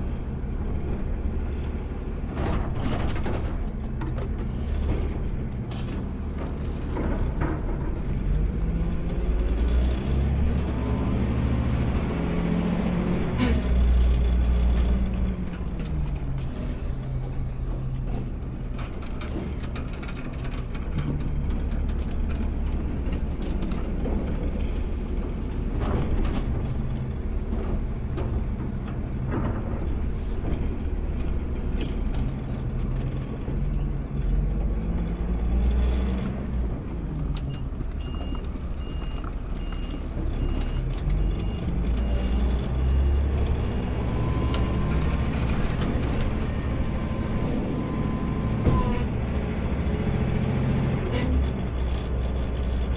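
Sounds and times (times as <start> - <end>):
garbage truck diesel engine: 0.0 - 52.9.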